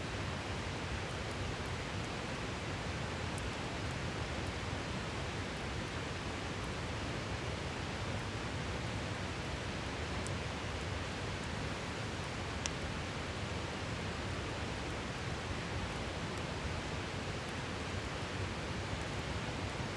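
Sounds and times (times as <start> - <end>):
campfire crackles: 0.3 - 18.1.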